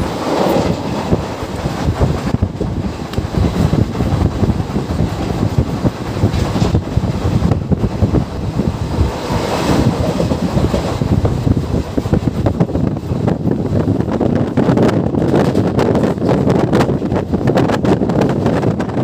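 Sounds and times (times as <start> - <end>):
moving train coach noise: 0.0 - 19.0
wind buffeting microphone: 0.0 - 19.0.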